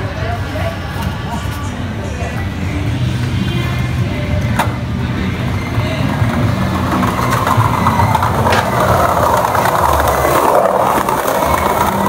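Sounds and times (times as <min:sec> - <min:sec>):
skateboard wheels rolling on tiles: 0:02.2 - 0:12.0.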